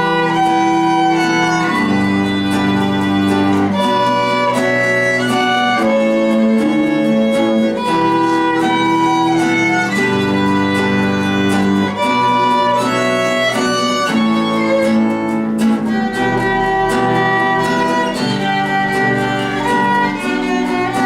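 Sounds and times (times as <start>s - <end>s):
cello bass notes: 0.0s - 21.0s
plucked guitar chords: 0.0s - 21.0s
violins bowing sustained notes: 0.0s - 21.0s.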